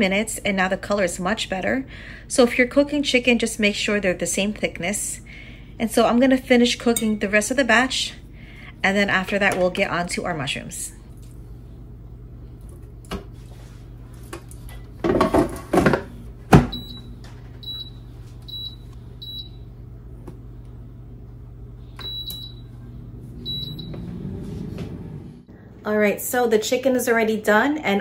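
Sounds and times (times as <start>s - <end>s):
fan whirring: 0.0s - 28.0s.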